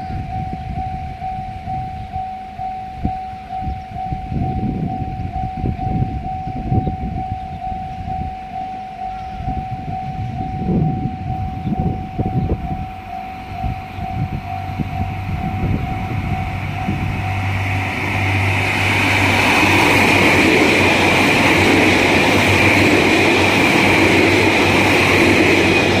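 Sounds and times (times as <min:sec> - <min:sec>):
crossing warning bell ringing: 0:00.0 - 0:26.0
train rushing past: 0:04.1 - 0:26.0.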